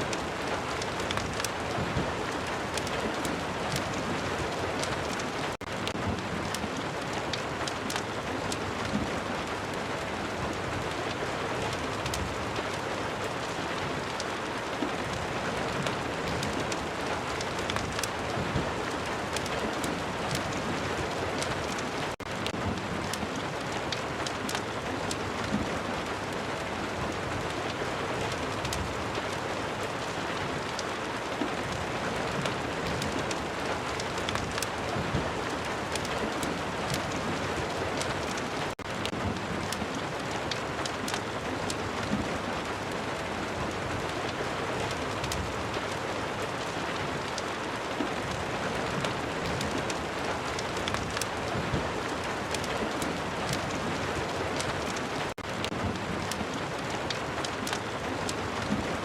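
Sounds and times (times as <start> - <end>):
raindrops ticking: 0.0 - 59.0
steady rain: 0.0 - 59.0.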